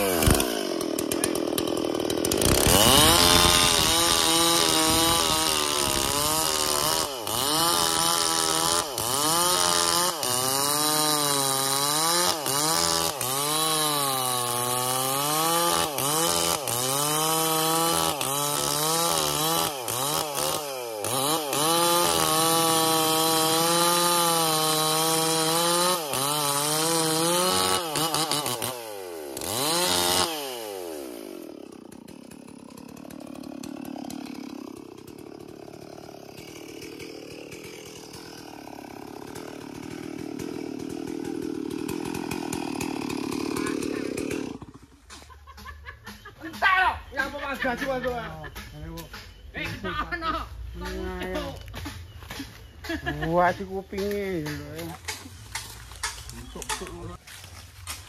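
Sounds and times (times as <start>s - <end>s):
chainsaw idling: 0.0s - 46.2s, 49.8s - 58.0s
chainsaw sawing through wood: 0.0s - 58.0s.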